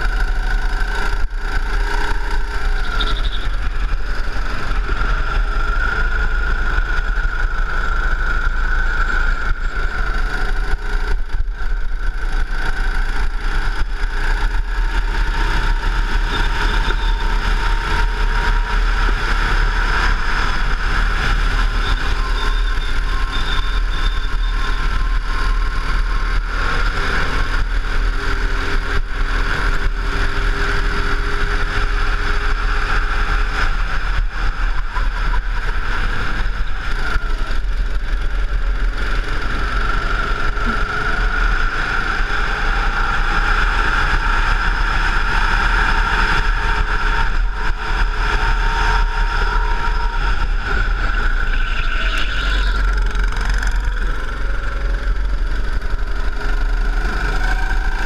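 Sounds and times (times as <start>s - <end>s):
go-kart engine racing: 0.0s - 58.0s.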